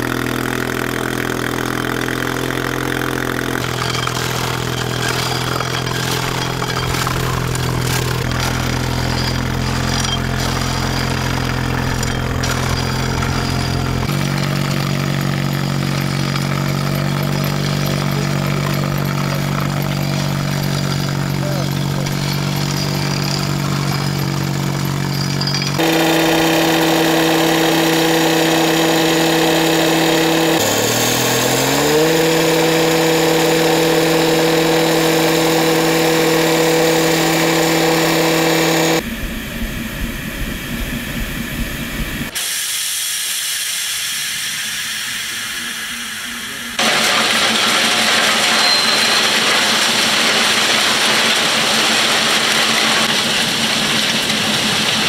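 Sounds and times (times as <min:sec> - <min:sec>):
freight wagons rolling on rails: 0:00.0 - 0:39.0, 0:46.4 - 0:55.0
cutting saw petrol engine: 0:00.0 - 0:55.0.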